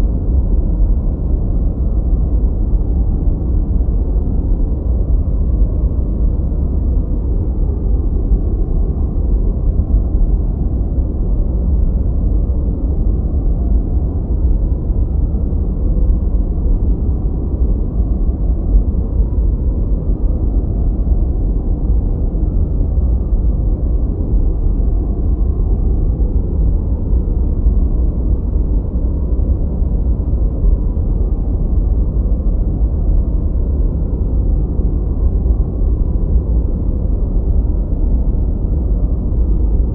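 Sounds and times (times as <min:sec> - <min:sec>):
deep steady white noise: 0:00.0 - 0:39.9.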